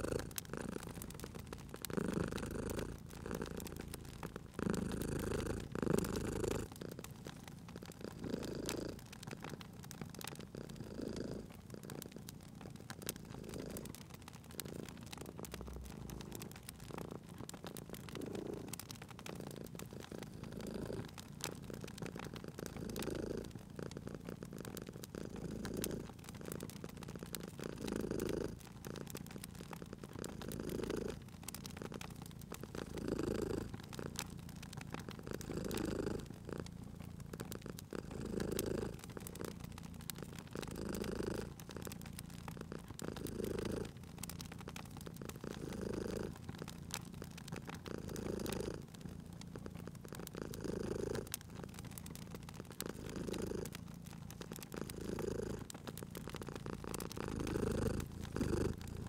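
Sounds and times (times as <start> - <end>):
cat purring: 0.0 - 59.0
fire crackling in a fireplace: 0.0 - 59.0.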